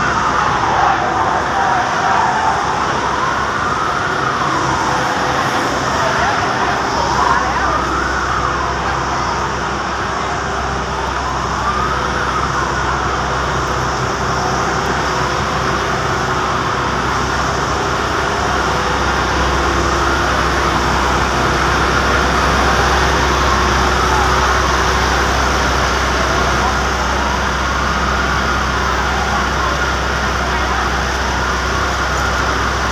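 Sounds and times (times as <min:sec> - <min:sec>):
engine drone: 0:00.0 - 0:32.9
siren wailing: 0:00.0 - 0:32.9
street noise: 0:00.0 - 0:32.9.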